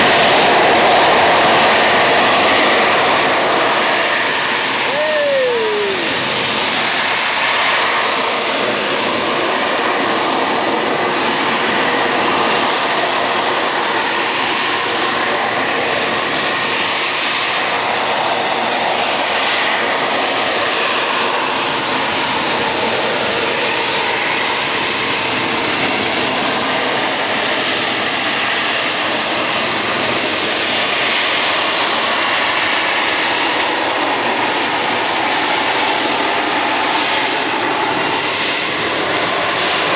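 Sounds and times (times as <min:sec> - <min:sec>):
aircraft engine noise: 0:00.0 - 0:39.9.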